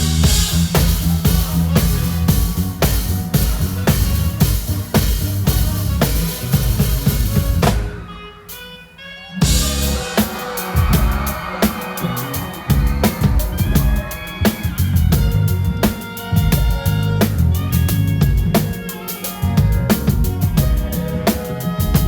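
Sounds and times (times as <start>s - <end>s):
drum kit beat: 0.0s - 22.0s
held keyboard or guitar notes: 0.0s - 22.0s
live band playing pop: 0.0s - 22.0s.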